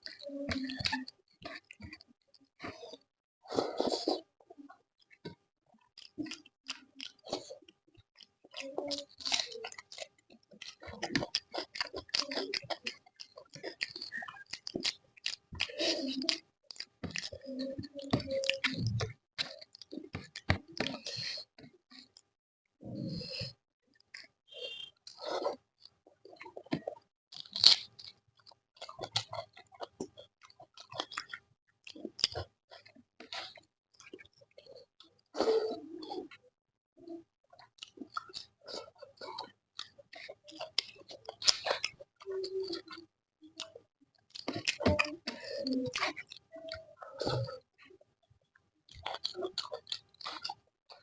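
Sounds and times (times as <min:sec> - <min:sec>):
person chewing wet food: 0:00.0 - 0:51.0.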